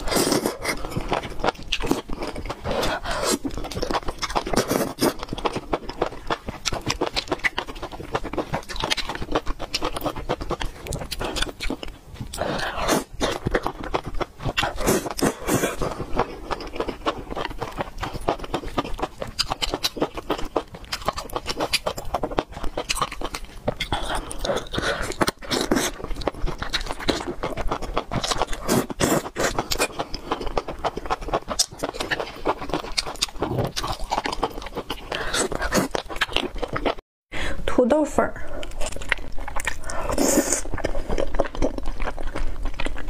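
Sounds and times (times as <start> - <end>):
slurping and chewing: 0.0 - 37.0, 38.4 - 43.0.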